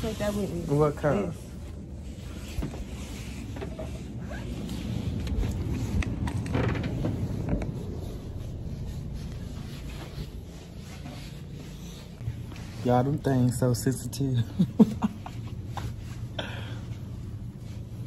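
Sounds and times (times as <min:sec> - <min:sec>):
clothing rustling: 0:00.0 - 0:18.0.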